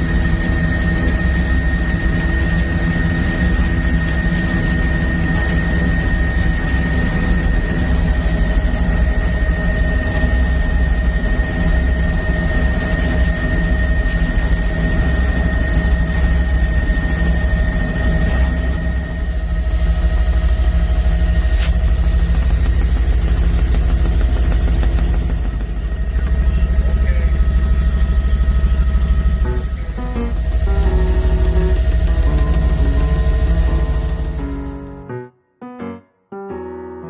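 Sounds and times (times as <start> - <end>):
helicopter running: 0.0 - 35.0.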